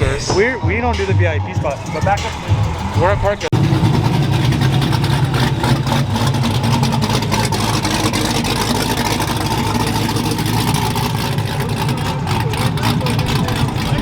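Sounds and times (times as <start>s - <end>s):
car engine idling: 0.7s - 14.0s.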